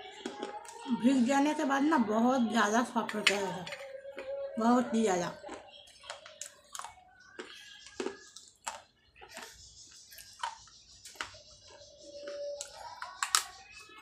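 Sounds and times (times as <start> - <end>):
clay pot being chewed crunching: 0.0 - 1.0, 3.1 - 4.6, 5.2 - 14.0.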